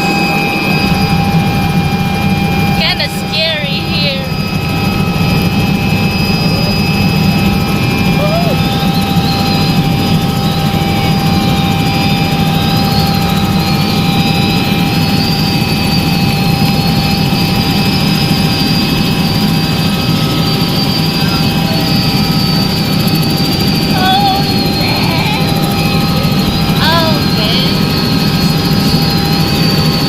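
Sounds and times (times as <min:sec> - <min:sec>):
helicopter engine and rotor drone: 0:00.0 - 0:30.0
high whine: 0:00.0 - 0:30.0.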